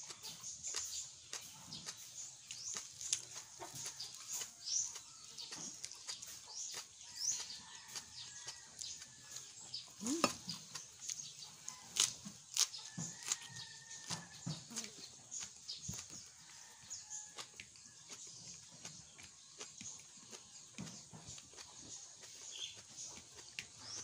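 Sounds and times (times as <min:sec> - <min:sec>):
wet chewing: 0:00.0 - 0:24.0.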